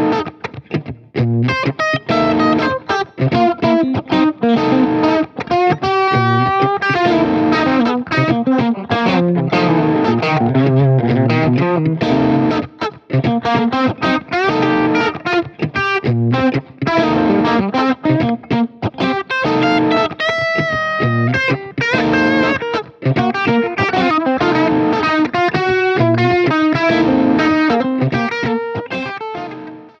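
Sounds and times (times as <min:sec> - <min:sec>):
electric guitar funky blues phrase: 0:00.0 - 0:30.0.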